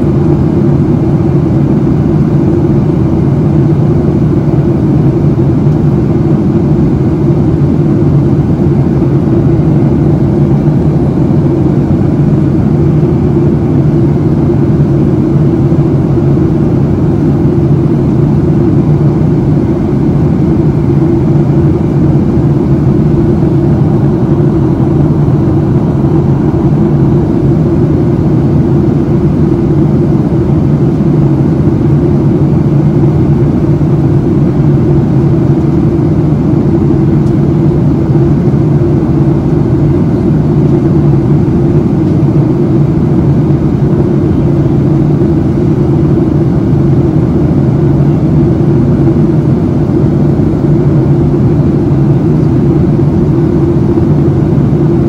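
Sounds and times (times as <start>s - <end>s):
airflow over fuselage: 0.0s - 55.0s
jet engine cabin drone: 0.0s - 55.0s.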